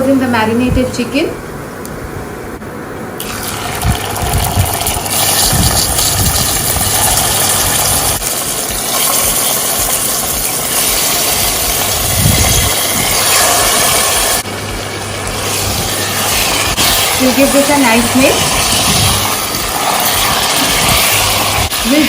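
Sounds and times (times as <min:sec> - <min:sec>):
chicken sizzling in a frying pan: 0:03.2 - 0:22.0.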